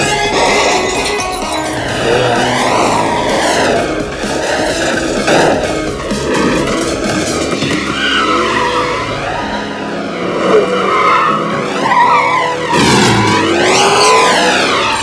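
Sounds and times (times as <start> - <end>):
car engine revving hard: 0.0 - 15.0
music: 0.0 - 15.0
tyres squealing and skidding: 0.0 - 15.0.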